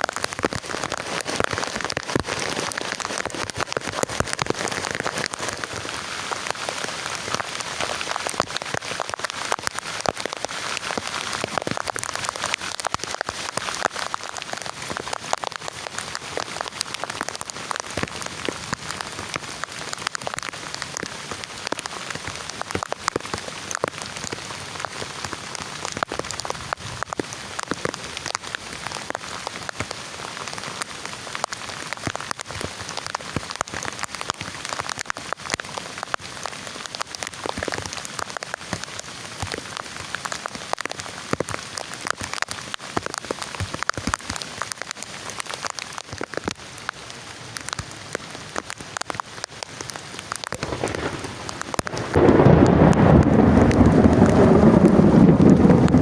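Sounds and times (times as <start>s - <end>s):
raindrops striking a surface: 0.0s - 56.0s
steady rain falling: 0.0s - 56.0s.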